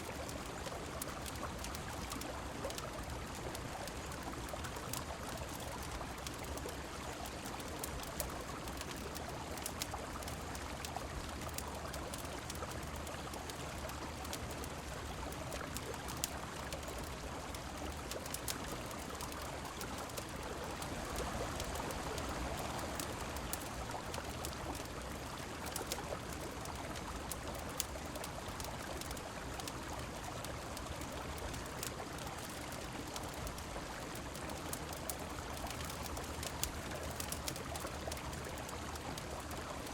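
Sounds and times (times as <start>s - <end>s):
flowing river water: 0.0s - 39.9s
rain: 0.0s - 39.9s
wood fire crackling: 0.0s - 39.9s.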